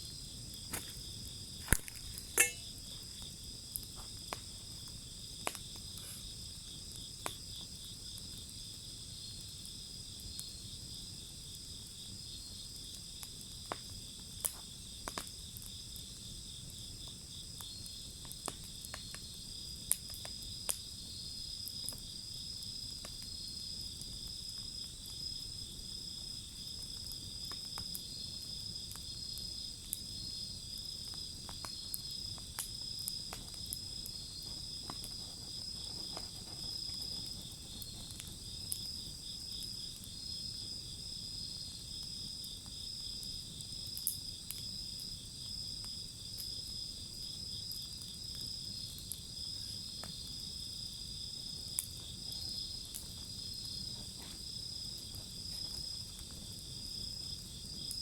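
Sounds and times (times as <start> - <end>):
crickets chirping: 0.0 - 58.0
wood fire crackling: 0.0 - 58.0.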